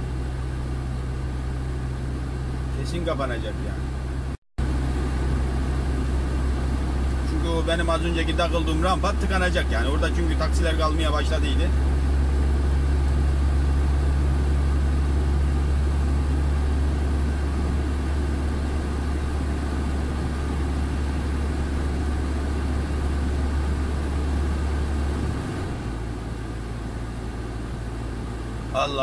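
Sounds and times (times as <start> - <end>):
truck diesel engine droning: 0.0 - 29.0.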